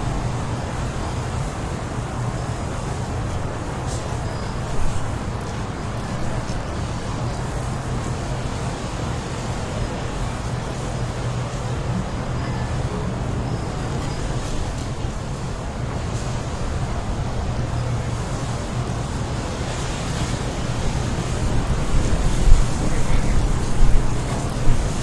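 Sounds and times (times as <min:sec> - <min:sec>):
strong wind rumbling: 0:00.0 - 0:25.0.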